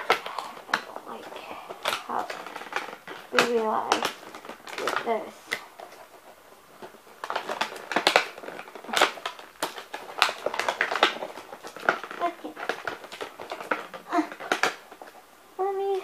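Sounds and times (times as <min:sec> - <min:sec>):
plastic packaging crackling: 0:00.0 - 0:16.0.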